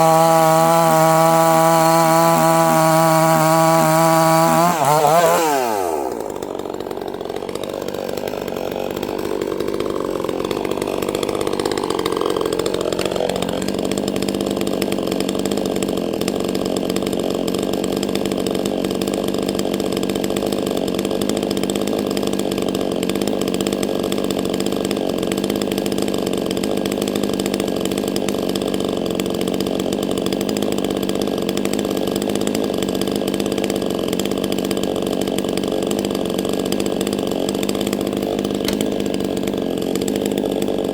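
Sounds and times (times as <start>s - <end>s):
chainsaw engine running: 0.0s - 40.9s.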